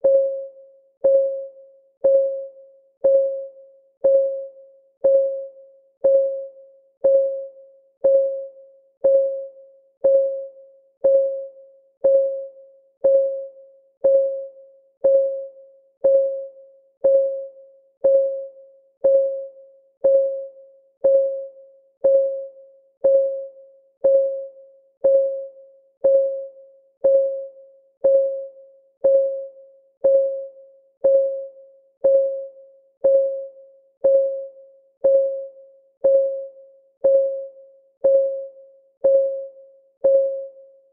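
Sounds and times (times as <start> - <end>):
countdown timer ticking: 2.0 - 2.4, 3.0 - 40.6.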